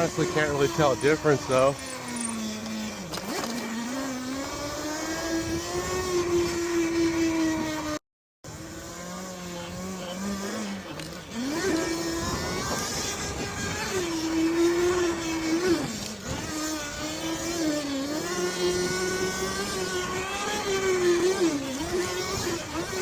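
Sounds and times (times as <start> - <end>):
electric bike motor whine: 0.0 - 23.0
road and drivetrain noise: 0.0 - 23.0.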